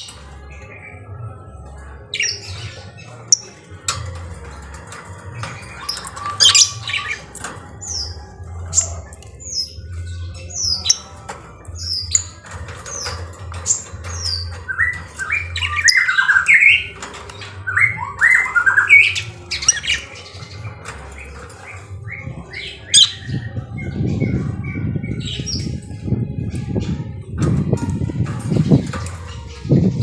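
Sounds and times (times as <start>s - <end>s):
lovebirds squawking and chirping: 0.0s - 30.0s.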